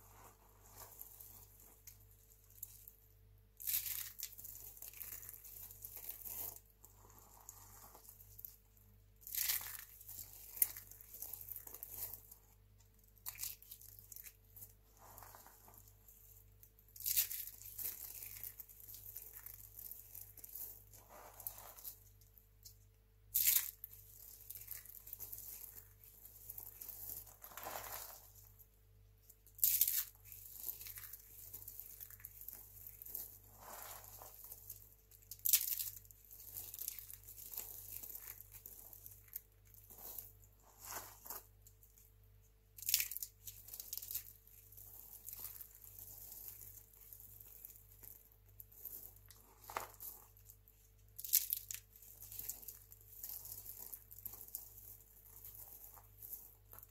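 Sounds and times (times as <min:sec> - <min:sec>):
crisp crunches: 0:00.0 - 0:02.9, 0:03.6 - 0:08.6, 0:09.2 - 0:12.5, 0:13.1 - 0:28.6, 0:29.5 - 0:42.0, 0:42.8 - 0:56.9
soap flakes crackling rustle: 0:00.0 - 0:56.9.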